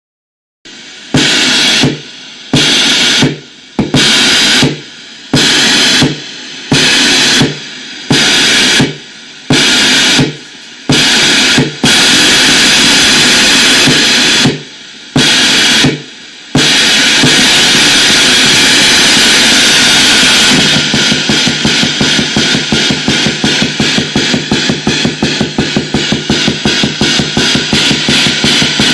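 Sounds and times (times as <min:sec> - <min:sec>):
low hum and hiss: 0:00.7 - 0:15.2, 0:16.0 - 0:28.9
gated white noise bursts: 0:00.7 - 0:28.9.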